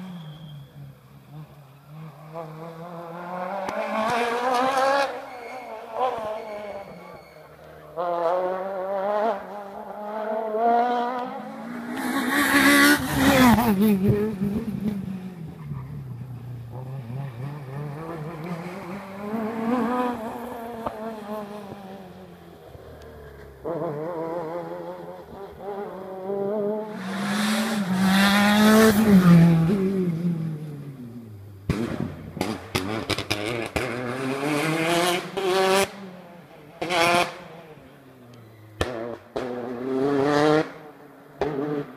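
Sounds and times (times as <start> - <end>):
cars passing close: 0.0 - 41.9
rally car engines revving: 0.0 - 41.9.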